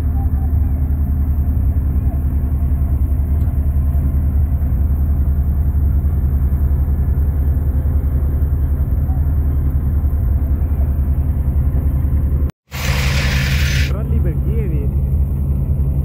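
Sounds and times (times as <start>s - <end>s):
tractor engine and reaper rumbling: 0.0s - 16.0s.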